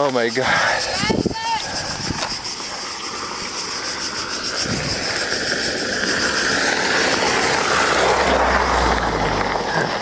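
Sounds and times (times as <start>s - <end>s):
cicadas buzzing: 0.0s - 10.0s
car approaching: 1.7s - 10.0s.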